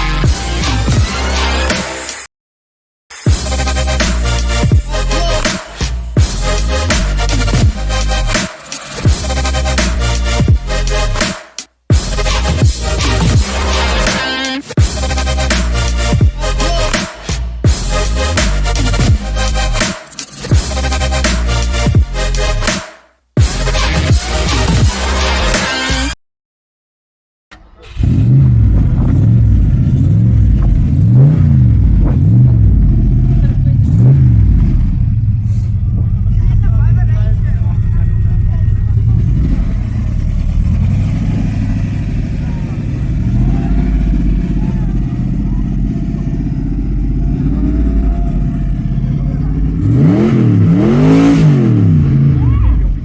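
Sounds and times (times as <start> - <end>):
car engine revving: 3.3 - 22.8, 27.5 - 53.0.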